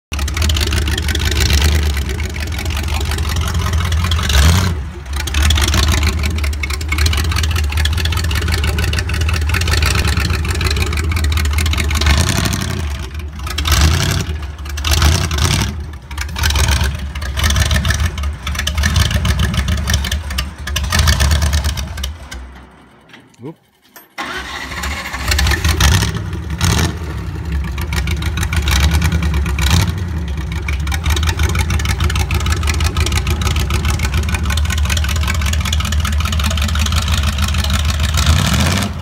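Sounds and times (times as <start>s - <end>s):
engine rumbling and revving: 0.1s - 23.6s, 24.2s - 39.0s.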